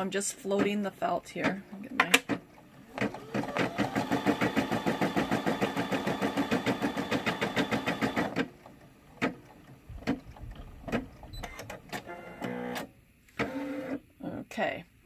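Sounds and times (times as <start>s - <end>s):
embroidery machine stitching: 1.4s - 14.0s.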